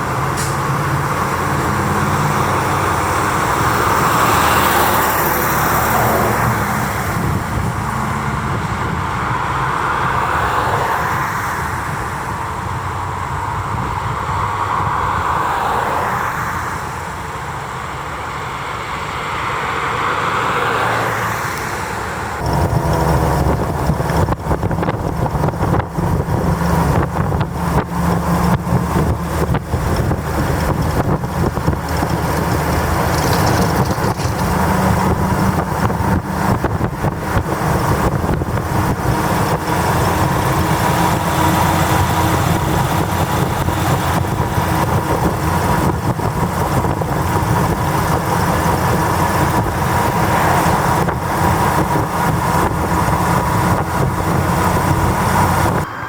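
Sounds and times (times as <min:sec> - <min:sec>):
large vehicle engine idling: 0:00.0 - 0:16.0, 0:21.7 - 0:56.0.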